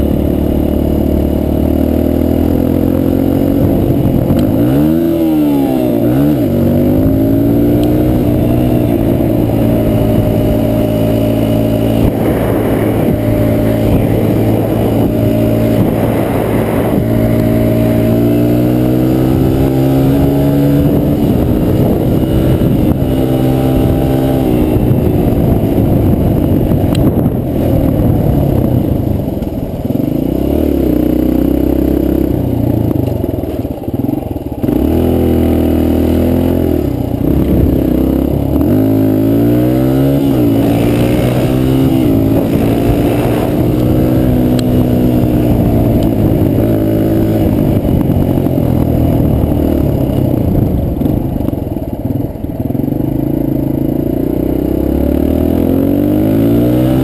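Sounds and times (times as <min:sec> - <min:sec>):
dirt bike engine revving: 0:00.0 - 0:52.0, 0:52.8 - 0:57.0.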